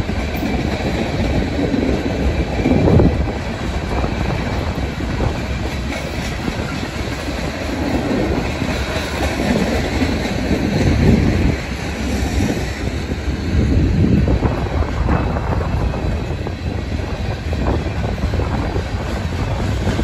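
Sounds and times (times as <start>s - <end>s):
steel train wheels rumbling on rails: 0.0s - 20.0s.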